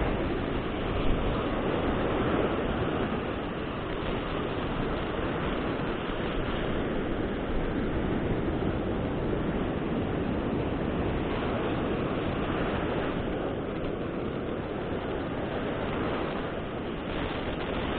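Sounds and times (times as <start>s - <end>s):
ocean surf on a beach: 0.0s - 17.9s
wind noise on microphone: 0.0s - 17.9s.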